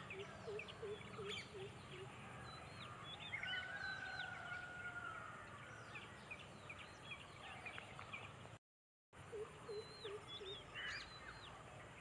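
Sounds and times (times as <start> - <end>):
birds chirping: 0.0 - 8.6, 9.2 - 12.0.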